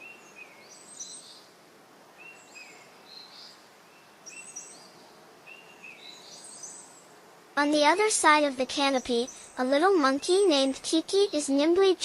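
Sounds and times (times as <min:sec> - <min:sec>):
birds chirping: 0:00.0 - 0:12.0
soft steady hiss: 0:00.0 - 0:12.0.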